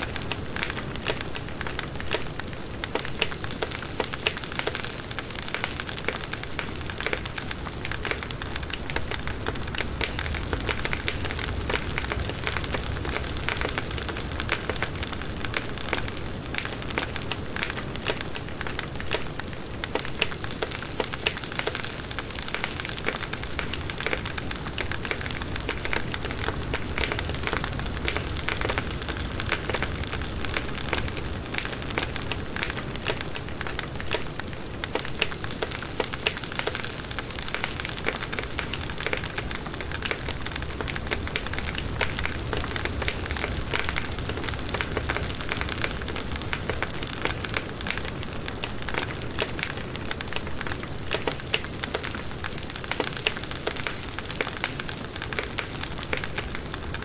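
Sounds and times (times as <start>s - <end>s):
campfire flames hissing: 0.0s - 57.0s
fire crackling and popping: 0.0s - 57.0s.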